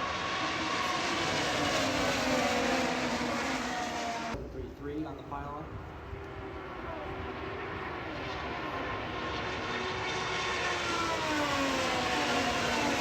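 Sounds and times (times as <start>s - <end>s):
race car engines passing: 0.0s - 4.6s, 5.6s - 13.0s.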